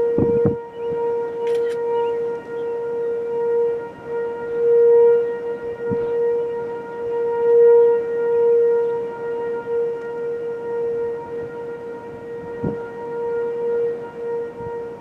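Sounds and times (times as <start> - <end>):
tornado warning siren: 0.0 - 15.0.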